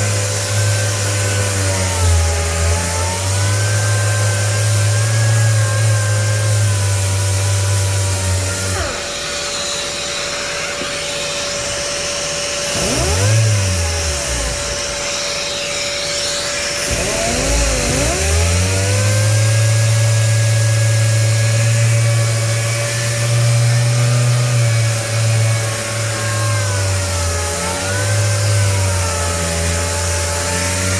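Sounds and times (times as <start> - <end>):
dust extractor running: 0.0 - 30.9
power sander humming: 0.0 - 30.9.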